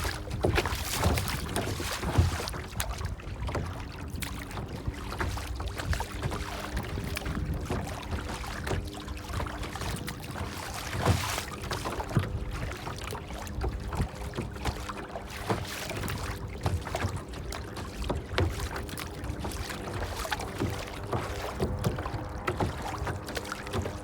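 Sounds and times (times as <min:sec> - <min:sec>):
water lapping and splashing: 0:00.0 - 0:24.0.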